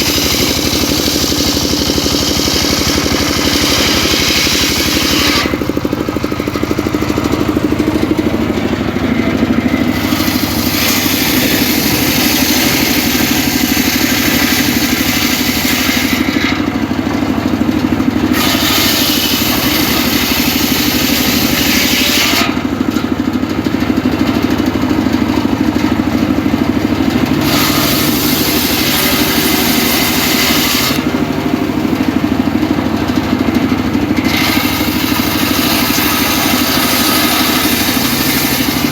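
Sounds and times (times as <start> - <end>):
saw blade cutting wood: 0.0 - 38.9
saw engine running: 0.0 - 38.9.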